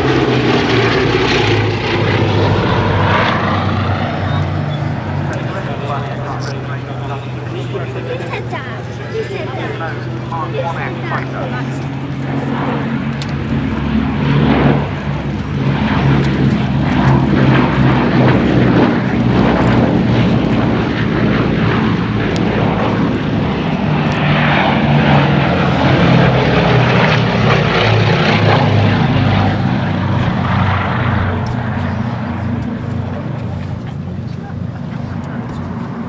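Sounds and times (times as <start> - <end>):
radial aircraft engines droning: 0.0 - 36.0.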